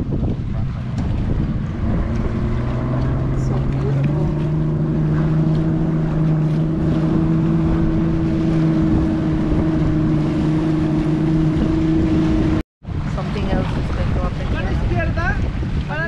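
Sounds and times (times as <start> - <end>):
motorboat engine humming: 0.0 - 16.0
wind and water rushing: 0.0 - 16.0.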